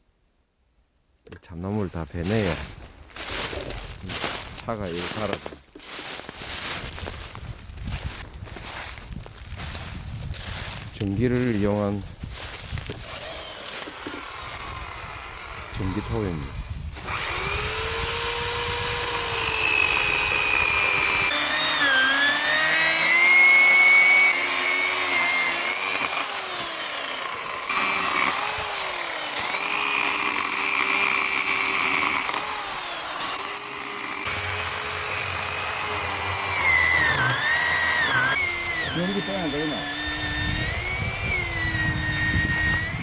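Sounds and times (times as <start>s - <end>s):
electric chainsaw cutting wood: 2.2s - 7.4s, 8.0s - 43.0s.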